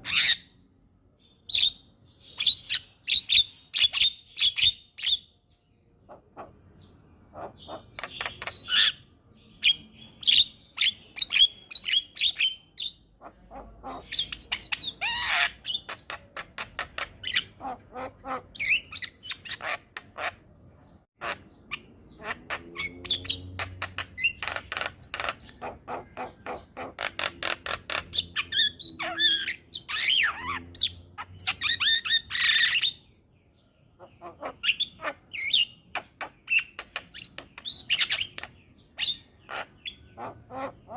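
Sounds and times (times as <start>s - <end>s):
bird chattering and whistling: 6.1s - 20.4s, 21.2s - 33.1s, 34.0s - 40.9s.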